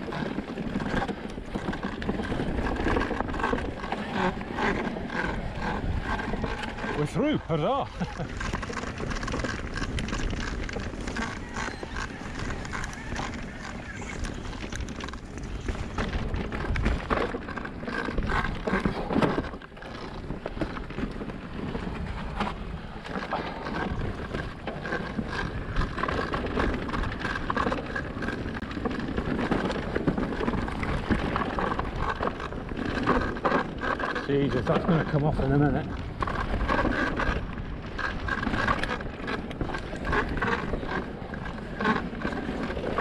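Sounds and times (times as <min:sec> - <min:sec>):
bike clattering over bumps: 0:00.0 - 0:43.0
tyre and wind noise: 0:00.0 - 0:43.0.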